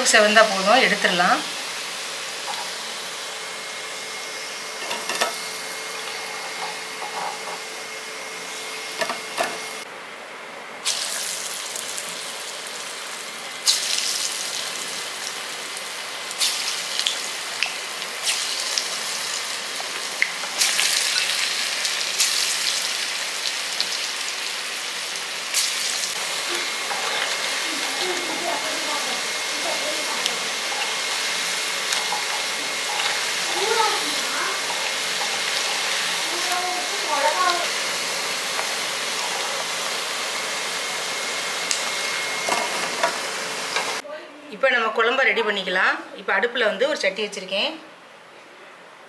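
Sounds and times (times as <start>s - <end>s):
hot oil sizzling: 0.0s - 9.9s, 10.8s - 44.0s.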